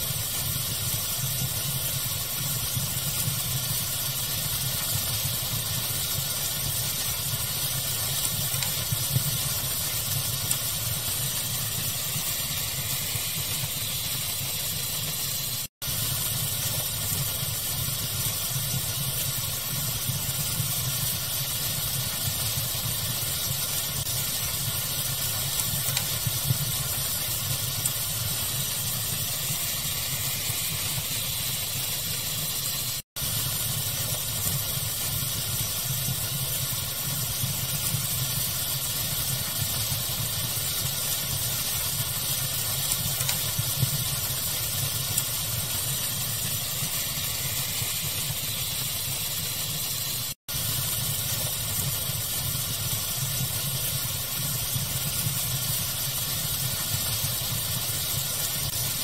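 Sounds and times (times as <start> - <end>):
fire crackling and popping: 0.0 - 59.0
pink noise hiss: 0.0 - 59.0.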